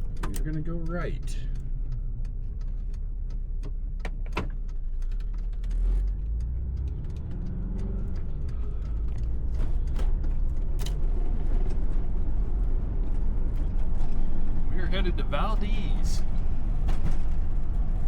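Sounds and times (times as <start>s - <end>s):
clicks and rattles in cabin: 0.0s - 6.2s, 8.0s - 15.1s, 15.7s - 18.0s
car engine and road rumble: 0.0s - 18.0s.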